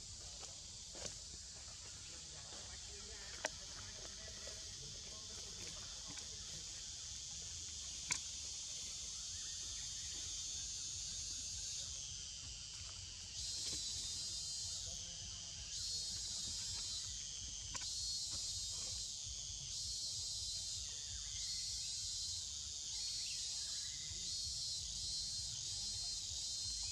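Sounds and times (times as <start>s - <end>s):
insect chorus buzzing: 0.0s - 26.9s.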